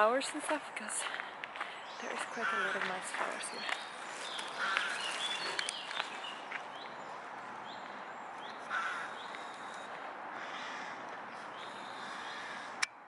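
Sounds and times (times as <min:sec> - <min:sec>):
bird calls: 0:01.5 - 0:12.9.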